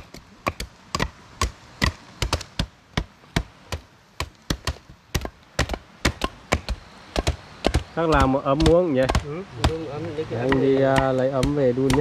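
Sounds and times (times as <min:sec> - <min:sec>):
blade chopping vine stems: 0:00.0 - 0:12.0.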